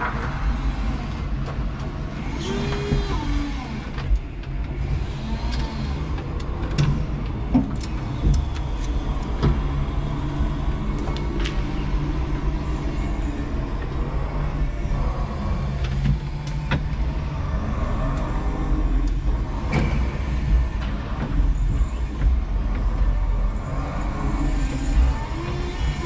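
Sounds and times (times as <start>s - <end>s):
electric motors whining: 0.0s - 26.0s
steady low rumble: 0.0s - 26.0s.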